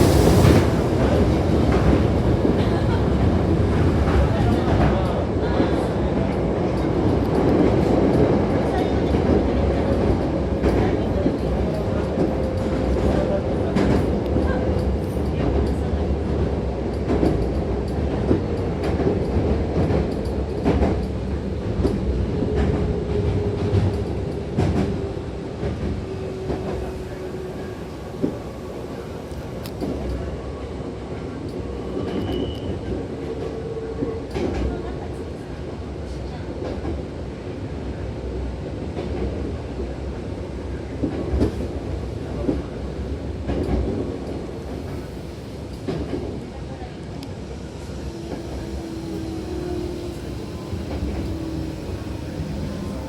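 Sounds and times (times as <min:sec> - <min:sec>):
electric train rumbling on rails: 0:00.0 - 0:53.0.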